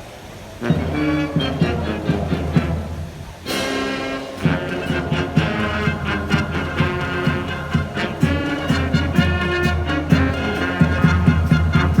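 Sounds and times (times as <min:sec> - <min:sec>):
brass playing chords: 0:00.6 - 0:12.0
drum strikes: 0:01.3 - 0:12.0.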